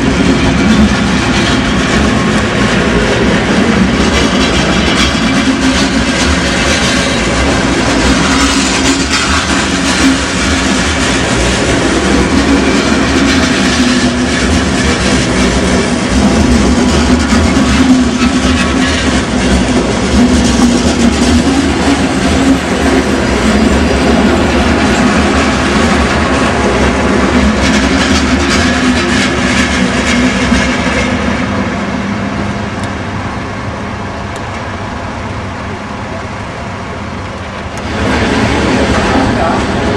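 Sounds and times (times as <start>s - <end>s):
train rolling rumble: 0.0s - 39.9s.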